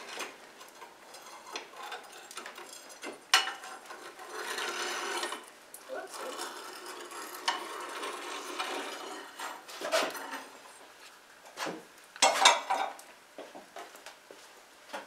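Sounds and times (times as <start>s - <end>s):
metal peel scraping brick floor: 0.0s - 12.8s.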